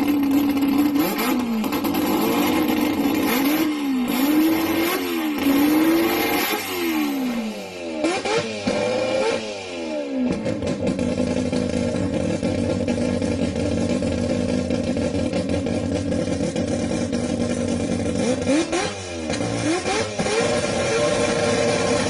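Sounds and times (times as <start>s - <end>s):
rotary engine revving and idling: 0.0s - 22.0s.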